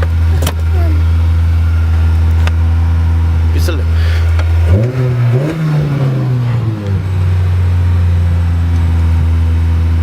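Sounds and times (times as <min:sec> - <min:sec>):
car engine idling unsteadily: 0:00.0 - 0:10.0.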